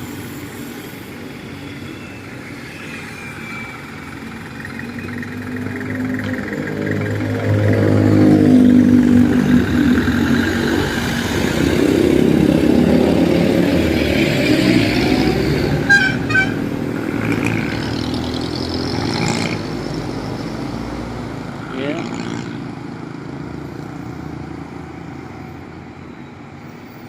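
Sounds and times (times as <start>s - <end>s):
highway traffic passing: 0.0s - 27.0s.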